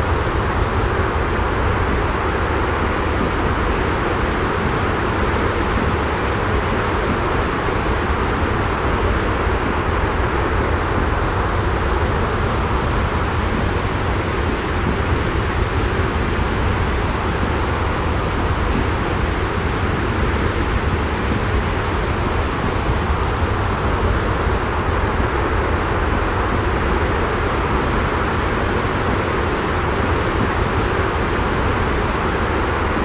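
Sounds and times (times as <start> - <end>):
rushing noise with low rumble: 0.0 - 33.0.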